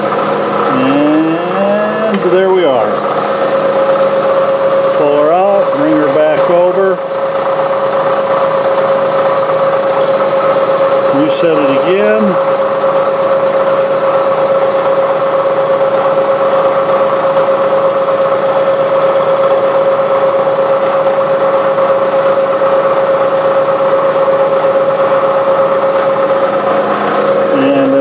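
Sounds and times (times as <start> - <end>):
metal lathe whining: 0.0 - 28.0.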